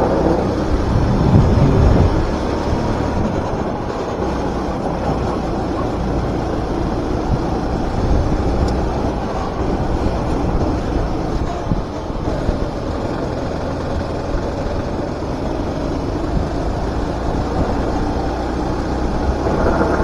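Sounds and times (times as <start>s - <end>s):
kart engine droning: 0.0s - 20.0s.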